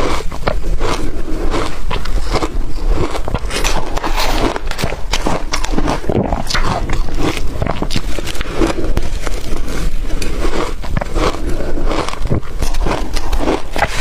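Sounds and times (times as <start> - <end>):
crushed ice being chewed: 0.0 - 14.0.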